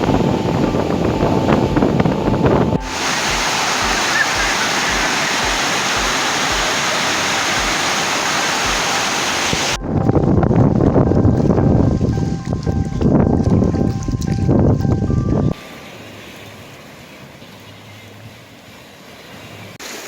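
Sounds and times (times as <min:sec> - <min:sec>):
sea and wind noise: 0:00.0 - 0:20.0
water rushing: 0:00.0 - 0:20.0.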